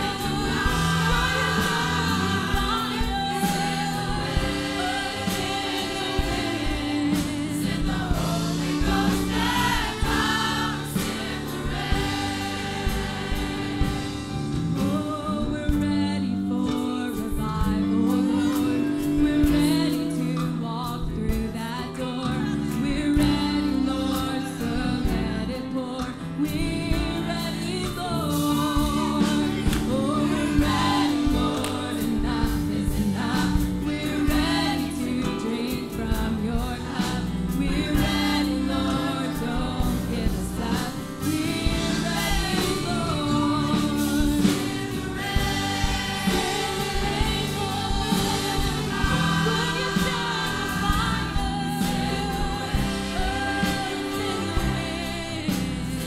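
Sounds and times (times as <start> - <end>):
congregation singing a hymn: 0.0 - 56.0
instrumental accompaniment: 0.0 - 56.0.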